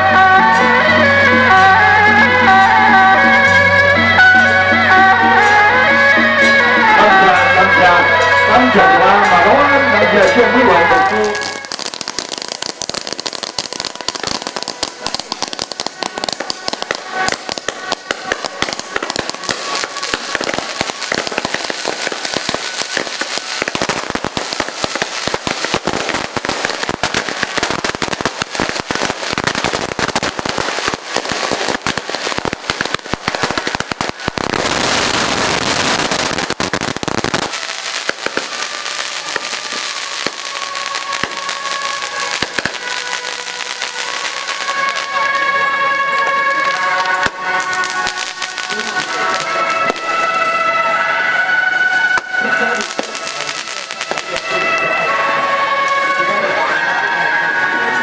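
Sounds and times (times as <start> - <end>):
firecrackers crackling: 0.0 - 58.0.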